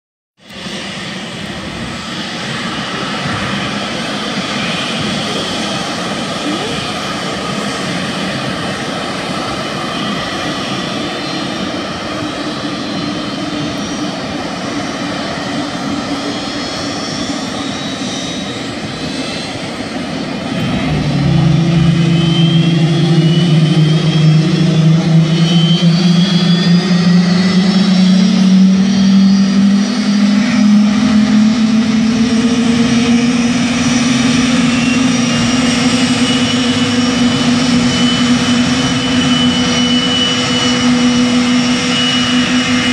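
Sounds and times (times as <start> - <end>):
jet engine spooling up: 0.4 - 42.9
jet engine whine: 0.4 - 42.9.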